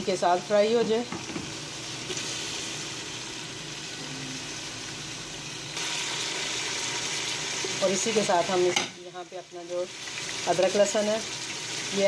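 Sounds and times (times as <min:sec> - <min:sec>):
onions and chicken sizzling in oil: 0:00.0 - 0:12.0.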